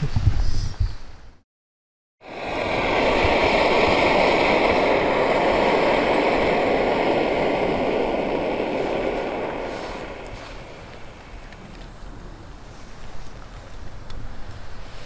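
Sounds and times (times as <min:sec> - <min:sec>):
camping stove rushing: 0:02.2 - 0:14.8.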